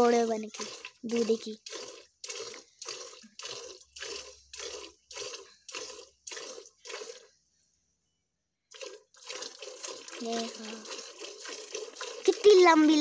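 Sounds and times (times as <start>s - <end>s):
milk squirting into a bucket: 0.0s - 7.4s, 8.7s - 13.0s.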